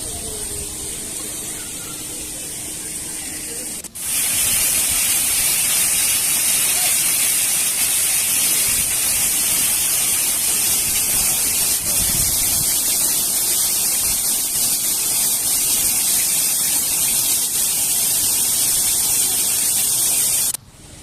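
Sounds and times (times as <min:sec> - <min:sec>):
water rushing and splashing: 0:00.0 - 0:20.6.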